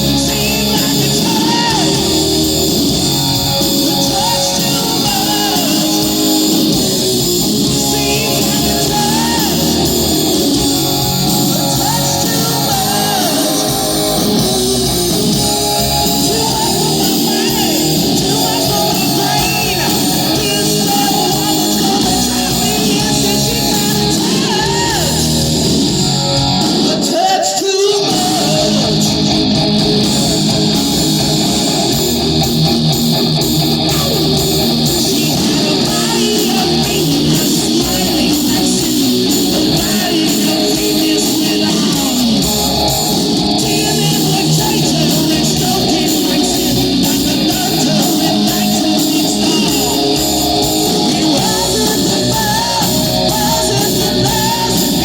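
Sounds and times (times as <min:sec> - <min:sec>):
rock band with singing: 0:00.0 - 0:55.0.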